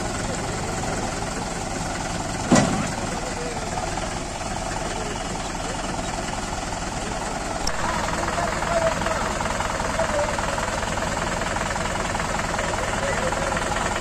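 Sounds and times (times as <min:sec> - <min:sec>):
diesel engines idling: 0:00.0 - 0:14.0.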